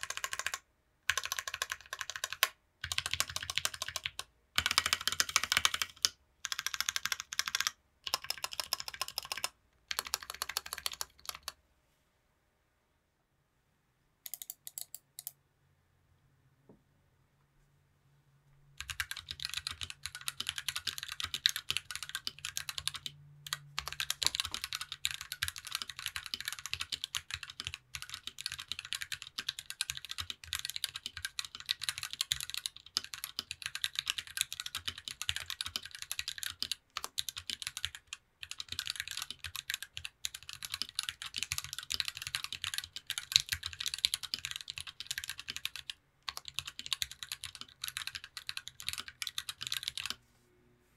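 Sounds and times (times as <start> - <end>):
mechanical keyboard typing: 0.0 - 11.6, 14.3 - 15.4, 18.8 - 50.2.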